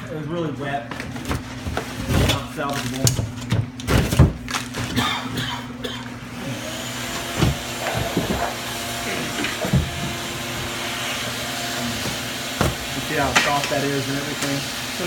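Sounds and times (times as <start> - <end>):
blower whirring: 1.0 - 15.0.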